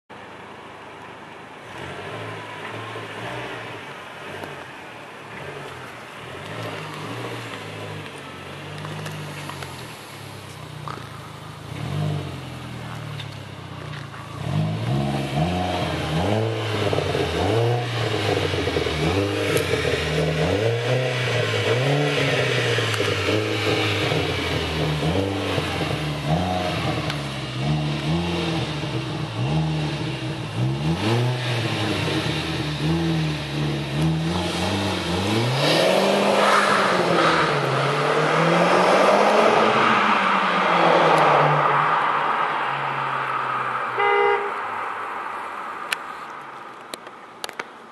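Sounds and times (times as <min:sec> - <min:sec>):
car engine idling and revving: 0:00.1 - 0:47.9
car accelerating away: 0:01.6 - 0:43.9.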